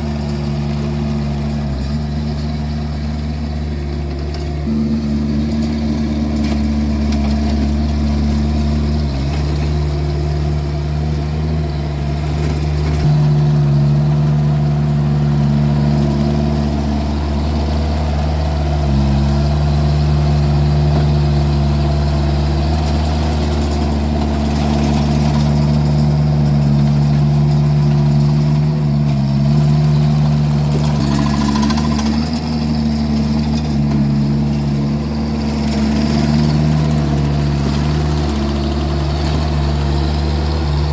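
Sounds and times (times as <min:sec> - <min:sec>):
engine running under load: 0:00.0 - 0:40.9.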